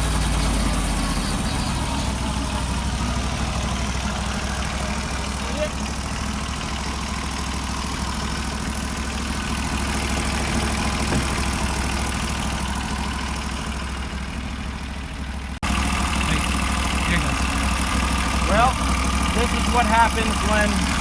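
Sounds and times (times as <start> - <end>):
sawmill engine idling: 0.0 - 21.0.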